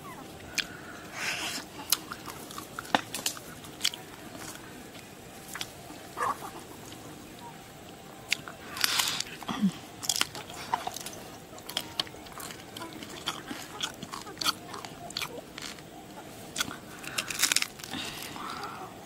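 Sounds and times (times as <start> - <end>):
chewing with wet clicks: 0.4 - 0.8, 1.8 - 5.7, 6.9 - 9.3, 10.0 - 18.8.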